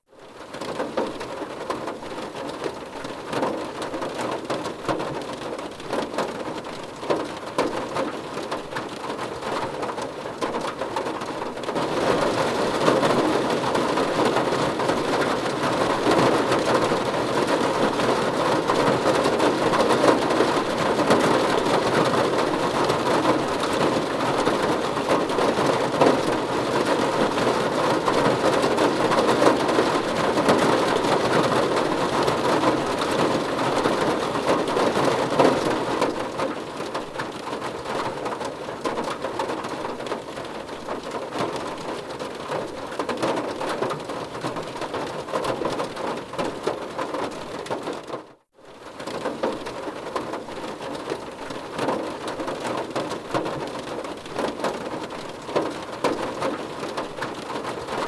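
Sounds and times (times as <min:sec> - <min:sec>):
heavy rain patter: 0:00.1 - 0:58.0.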